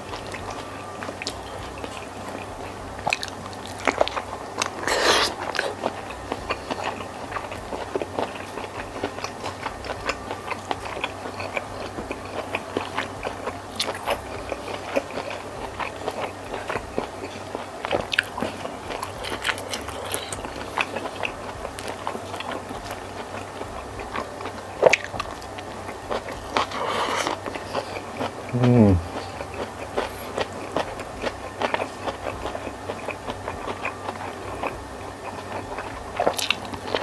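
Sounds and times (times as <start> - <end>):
close chewing with mouth clicks: 0.0 - 37.0.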